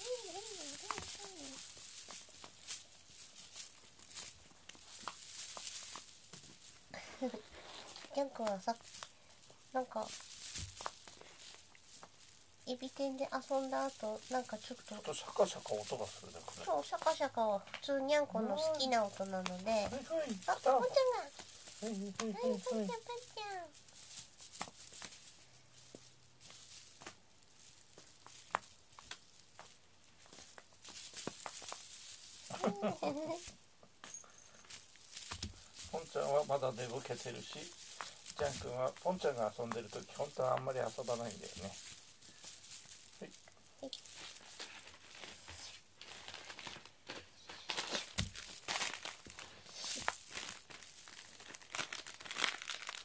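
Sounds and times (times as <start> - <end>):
crinkly toy rustle: 0.0 - 53.0.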